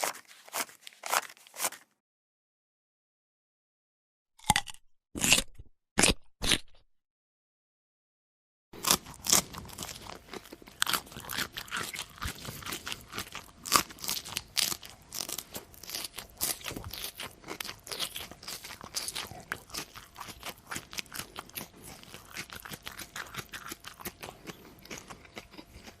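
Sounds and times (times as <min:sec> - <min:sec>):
person chewing crunchy food: 0:00.0 - 0:01.9, 0:04.4 - 0:06.8, 0:08.8 - 0:26.0.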